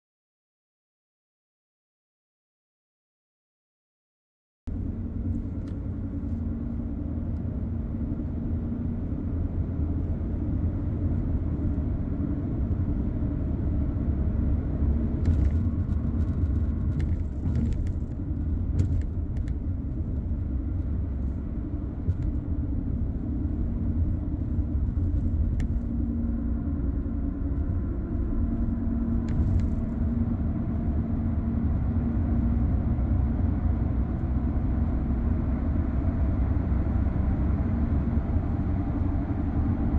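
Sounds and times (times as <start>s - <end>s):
car engine and road rumble: 4.7s - 39.9s.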